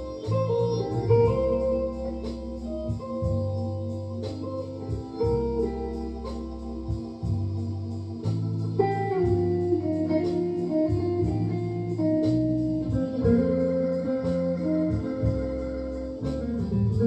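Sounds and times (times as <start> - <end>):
electric guitar melody: 0.0 - 17.0
steady low notes: 0.0 - 17.0.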